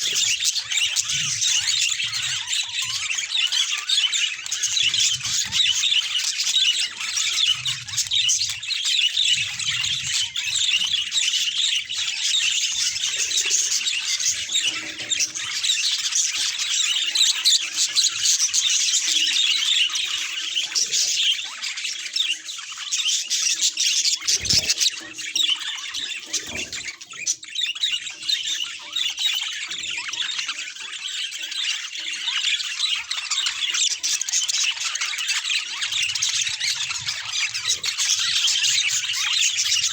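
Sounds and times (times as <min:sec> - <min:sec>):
bird squawks: 0:00.0 - 0:39.9
budgerigars chattering: 0:00.0 - 0:39.9.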